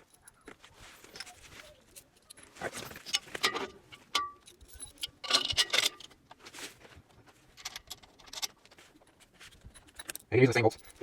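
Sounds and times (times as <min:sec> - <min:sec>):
metal bolts clinking and rattling: 0:00.0 - 0:06.3, 0:07.5 - 0:11.0.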